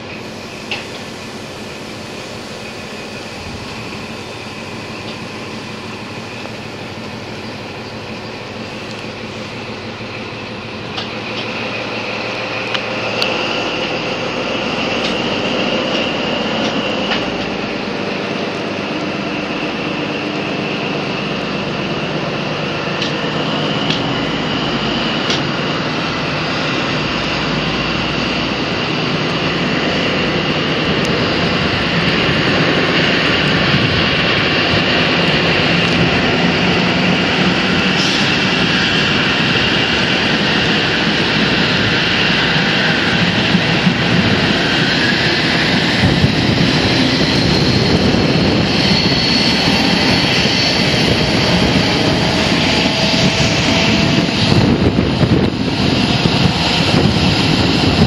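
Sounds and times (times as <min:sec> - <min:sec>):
diesel train engine whine: 0:00.0 - 0:58.0
wind rush: 0:08.6 - 0:58.0.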